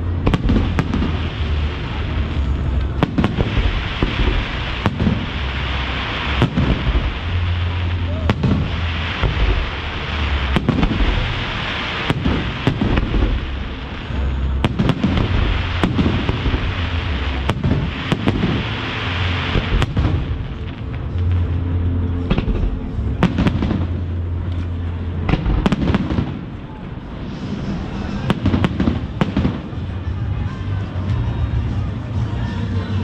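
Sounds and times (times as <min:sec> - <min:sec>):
firework crackle: 0:00.0 - 0:33.0.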